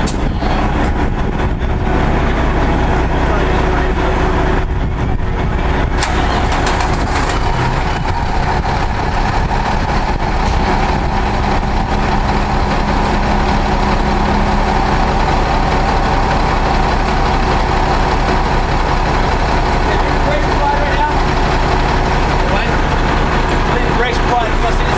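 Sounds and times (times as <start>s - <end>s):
diesel truck engine idling: 0.0s - 24.9s.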